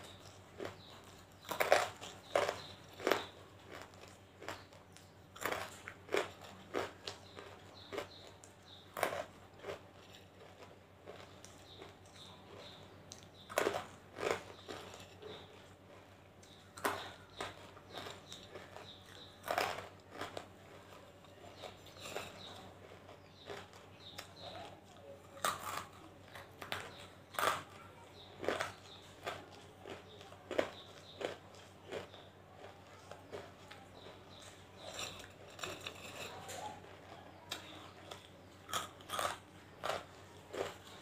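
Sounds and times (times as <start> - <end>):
hard pieces crunched between teeth: 0.0 - 15.6, 16.4 - 20.5, 25.4 - 27.8, 28.4 - 41.0
quiet chewing: 0.0 - 41.0.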